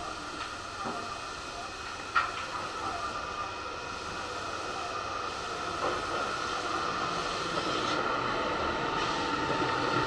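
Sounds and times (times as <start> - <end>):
electric train running noise: 0.0 - 10.0.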